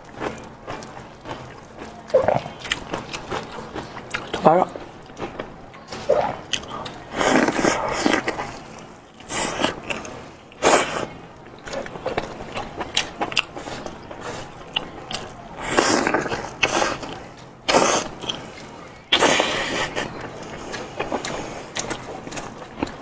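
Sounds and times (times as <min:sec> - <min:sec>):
seafood chewed and crunched: 0:00.0 - 0:23.0.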